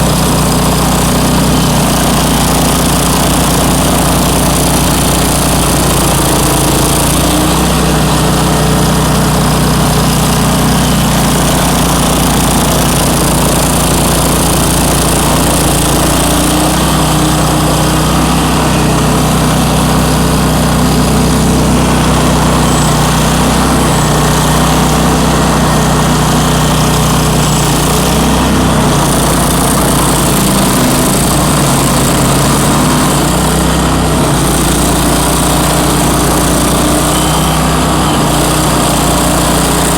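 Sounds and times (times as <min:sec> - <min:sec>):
stump grinder engine running: 0:00.0 - 0:39.9.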